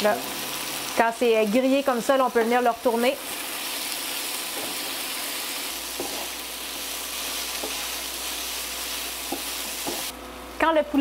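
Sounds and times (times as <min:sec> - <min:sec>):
chicken sizzling in oil: 0:00.0 - 0:10.2.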